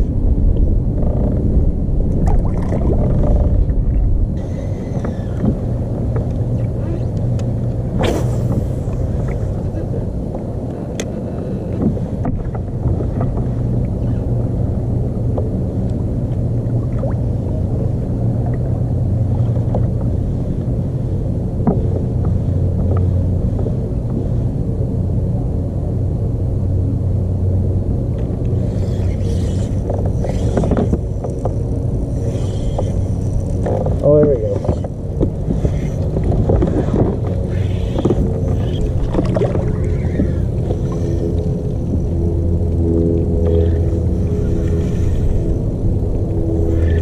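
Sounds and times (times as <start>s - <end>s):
engine running with low rumble: 0.0s - 47.0s.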